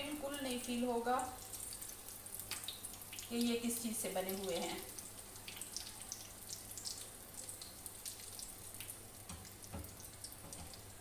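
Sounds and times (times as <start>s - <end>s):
patties sizzling in oil: 0.0s - 11.0s
oil crackles and pops: 0.1s - 3.5s, 4.2s - 11.0s.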